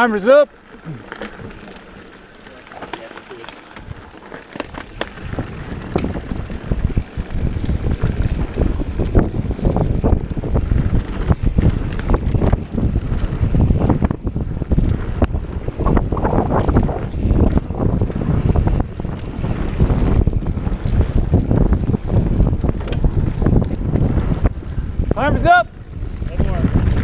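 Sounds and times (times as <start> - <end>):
bike clattering over rough ground: 0.0 - 25.2
bike tyre rumble on dirt: 0.0 - 27.0
wind buffeting microphone: 3.6 - 27.0.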